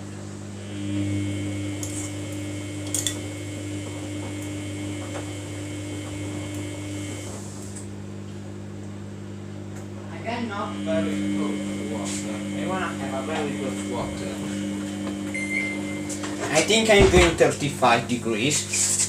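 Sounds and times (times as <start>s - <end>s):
high steady whine: 0.0s - 7.9s, 10.2s - 19.0s
washing machine low hum: 0.0s - 19.0s.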